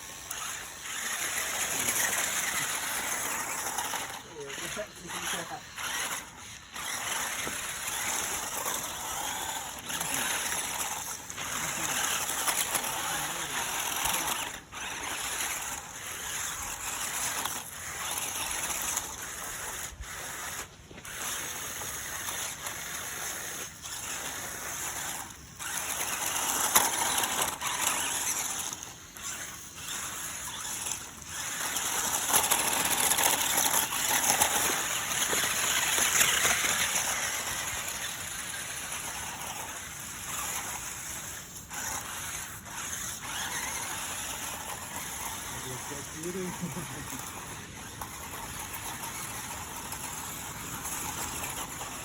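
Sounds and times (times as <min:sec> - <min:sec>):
remote-control truck driving: 0:00.0 - 0:52.0.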